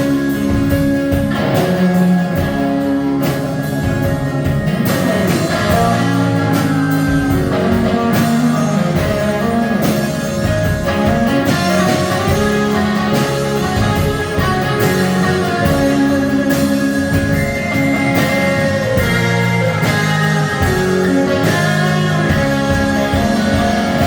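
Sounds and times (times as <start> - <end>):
electric guitar: 0.0 - 24.0
live rock band playing: 0.0 - 24.0
steady drum beat: 0.0 - 24.0.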